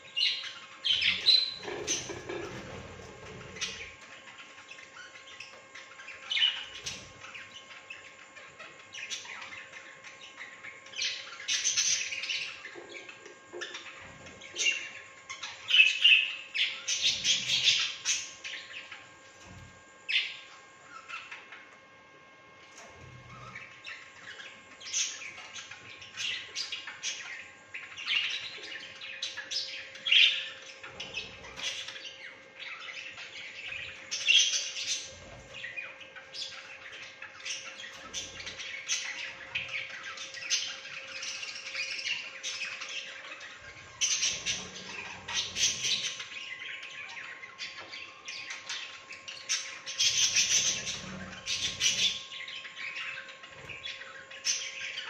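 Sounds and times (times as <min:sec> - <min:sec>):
budgerigars chattering and chirping: 0:00.0 - 0:21.6, 0:22.7 - 0:55.0.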